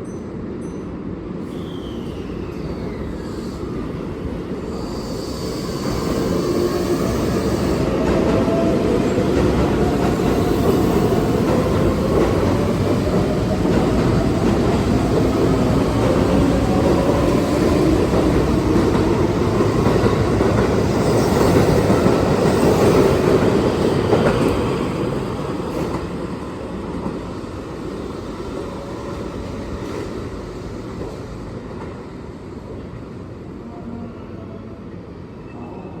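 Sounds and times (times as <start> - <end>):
train wheels rumbling: 2.0 - 32.2.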